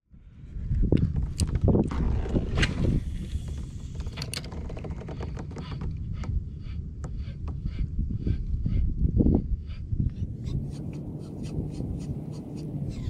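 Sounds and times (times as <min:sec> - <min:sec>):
wind rumble on microphone: 0:00.1 - 0:13.0.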